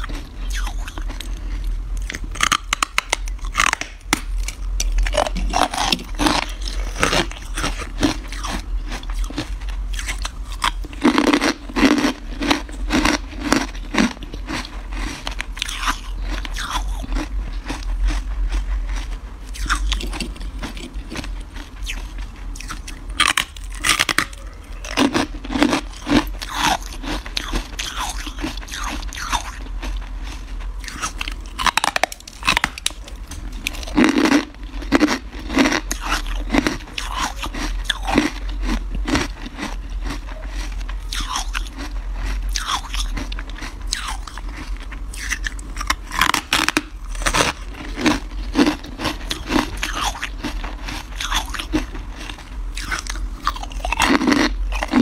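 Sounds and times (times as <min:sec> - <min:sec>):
ice crunching between teeth: 0:00.0 - 0:55.0.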